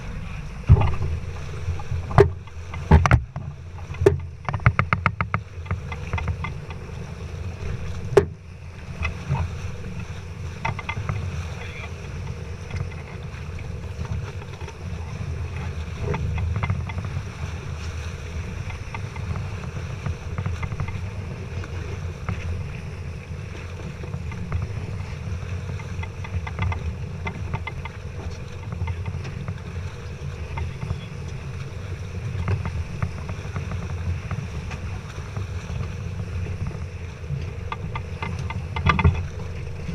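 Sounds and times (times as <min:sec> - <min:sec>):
sailboat low rumble: 0:00.0 - 0:39.9.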